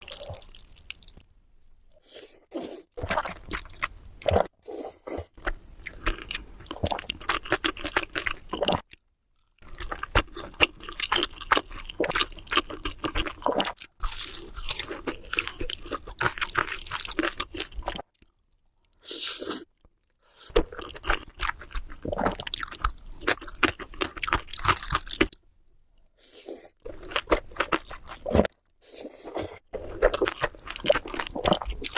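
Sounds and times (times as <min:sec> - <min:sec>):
crunching and chewing food: 0:02.4 - 0:25.4, 0:26.3 - 0:31.9.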